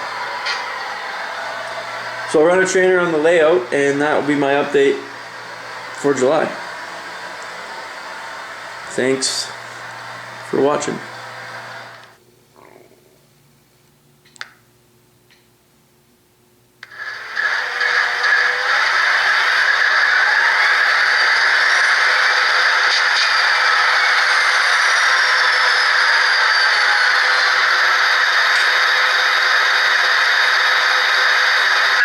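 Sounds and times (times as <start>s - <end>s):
model locomotive engine sound: 0.0s - 12.2s, 16.8s - 32.0s.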